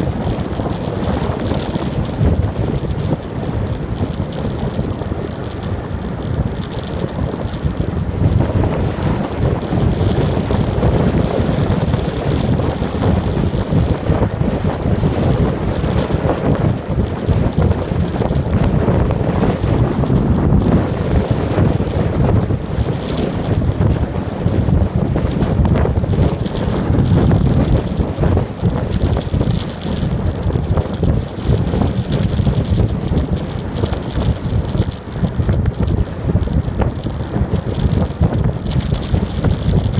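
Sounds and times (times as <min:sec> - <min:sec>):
road and tyre noise: 0:00.0 - 0:39.9
wind buffeting microphone: 0:00.0 - 0:39.9.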